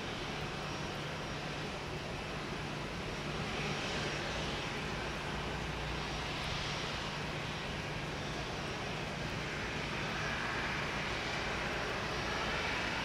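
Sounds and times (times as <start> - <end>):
airliner engines idling: 0.0 - 13.0.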